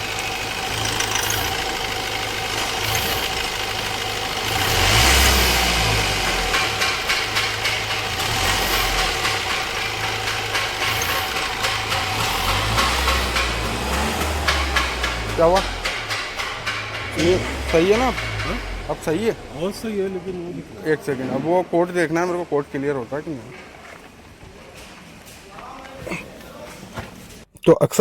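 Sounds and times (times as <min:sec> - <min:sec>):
diesel engine revving: 0:00.0 - 0:23.3.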